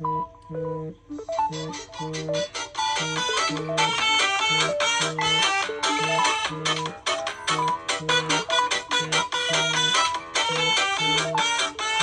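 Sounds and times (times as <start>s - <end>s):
phone ringtone melody: 0.0s - 12.0s.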